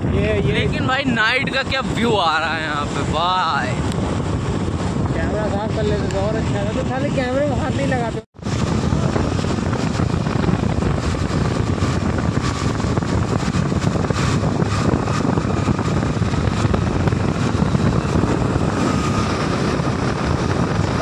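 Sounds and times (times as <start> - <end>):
wind rush: 0.0 - 21.0
motorcycle engine: 0.2 - 21.0
second motorcycle running: 0.2 - 21.0.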